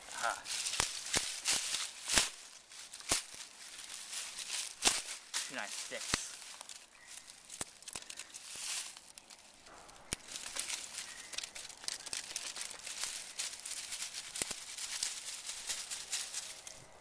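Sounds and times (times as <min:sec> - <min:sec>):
dry leaves and twigs crackling: 0:00.0 - 0:17.0
twigs snapping: 0:00.2 - 0:16.8.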